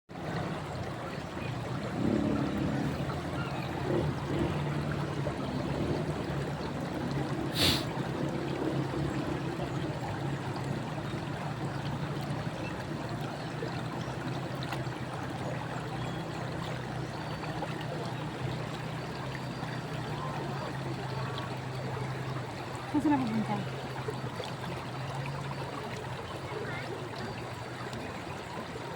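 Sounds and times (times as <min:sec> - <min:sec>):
river water flowing: 0:00.1 - 0:28.9.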